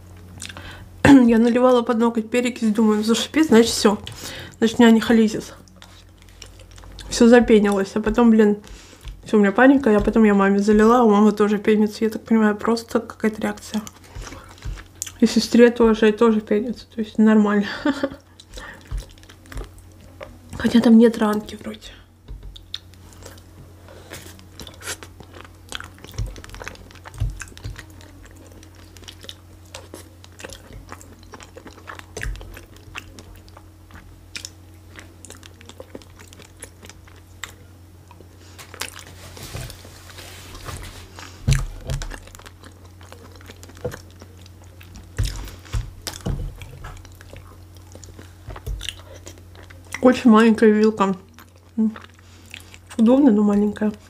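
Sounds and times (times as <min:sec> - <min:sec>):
chewing and biting food: 0:03.6 - 0:11.5, 0:13.4 - 0:16.1, 0:18.0 - 0:21.7, 0:22.3 - 0:54.0.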